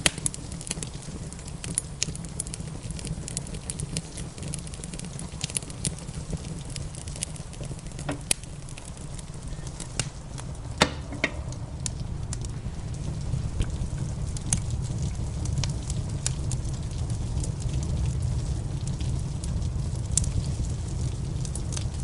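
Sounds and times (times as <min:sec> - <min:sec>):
rain rushing: 0:00.0 - 0:22.0
wood fire crackling: 0:00.0 - 0:22.0.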